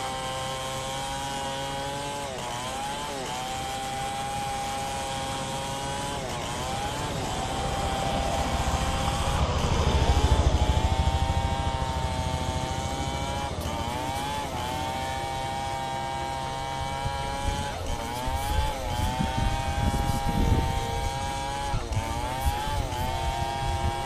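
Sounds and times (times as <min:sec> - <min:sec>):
chainsaw running at high revs: 0:00.0 - 0:24.0.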